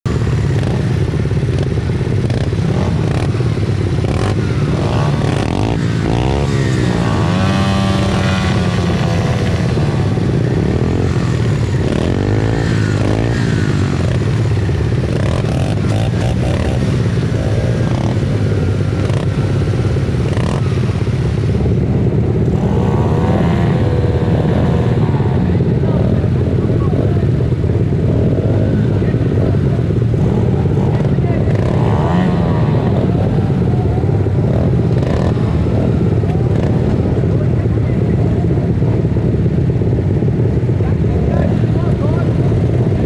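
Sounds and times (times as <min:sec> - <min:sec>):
pit bike engines revving: 0:00.1 - 0:43.0.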